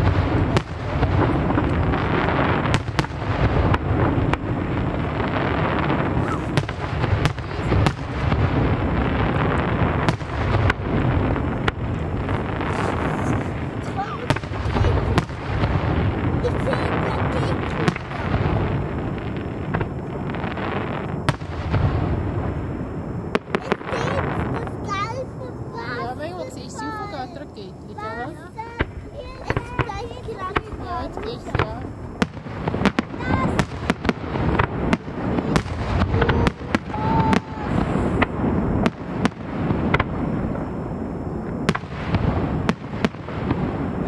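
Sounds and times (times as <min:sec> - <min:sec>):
fireworks bursting: 0:00.0 - 0:44.0
fireworks rumble and crackle: 0:00.0 - 0:44.0
sharp firework bangs: 0:00.0 - 0:44.0.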